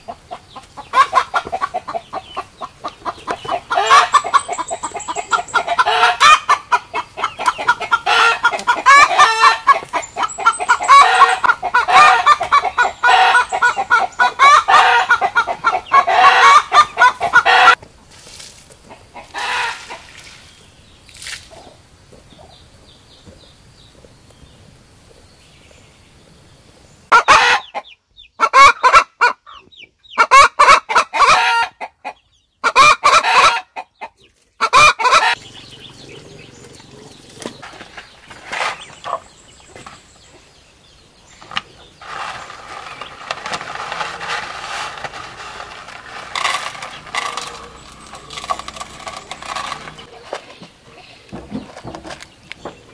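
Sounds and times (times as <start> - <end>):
chickens clucking and squawking: 0.0 - 52.9.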